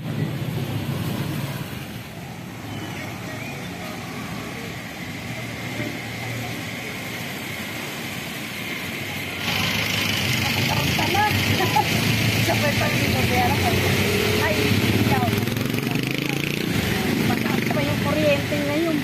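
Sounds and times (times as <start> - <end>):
passing road traffic: 0.0 - 19.0.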